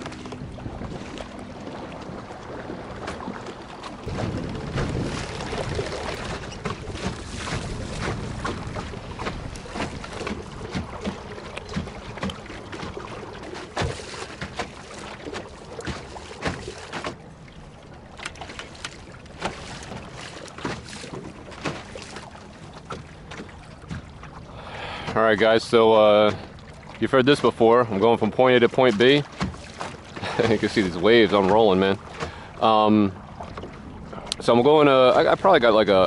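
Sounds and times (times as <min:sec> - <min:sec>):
waves slapping against canoe hull: 0:00.0 - 0:36.0
wind and water wash: 0:00.0 - 0:36.0.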